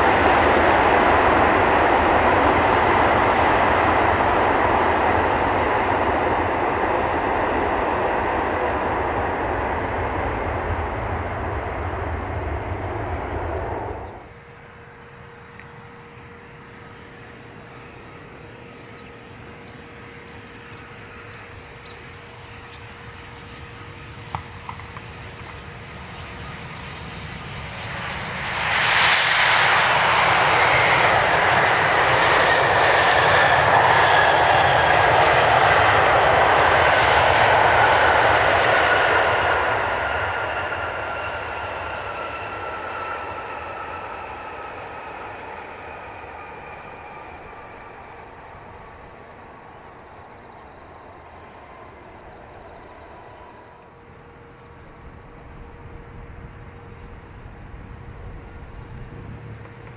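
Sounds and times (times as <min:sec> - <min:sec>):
jet engine roar: 0:00.0 - 0:59.9
jet engine whine falling in pitch: 0:00.0 - 0:59.9.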